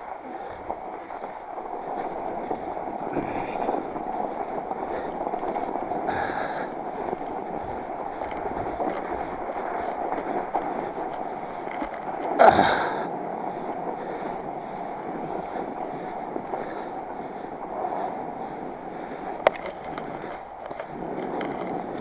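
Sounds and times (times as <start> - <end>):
bike tires crunching over snow: 0.0 - 22.0.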